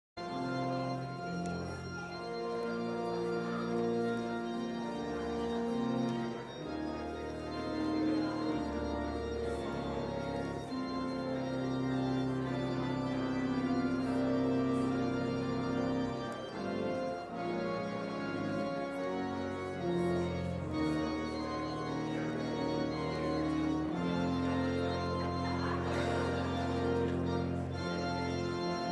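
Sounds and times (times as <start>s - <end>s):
church organ chords: 0.2s - 28.9s.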